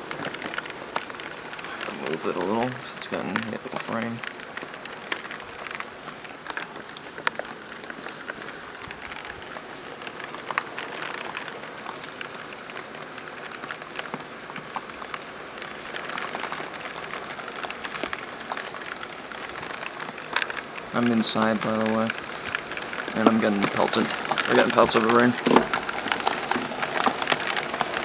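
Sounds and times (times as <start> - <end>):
heavy rain: 0.0 - 28.0
raindrops ticking close by: 0.0 - 28.0.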